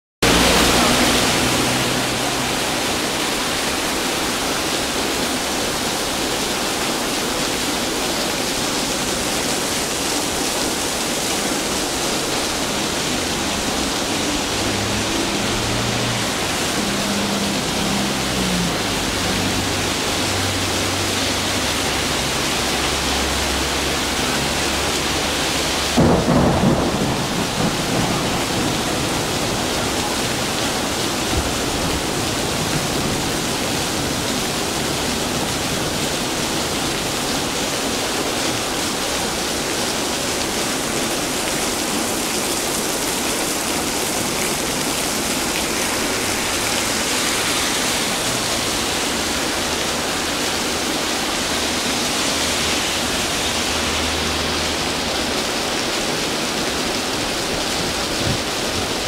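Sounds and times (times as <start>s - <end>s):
heavy rain on road: 0.2s - 59.0s
water splashing off roof: 0.2s - 59.0s.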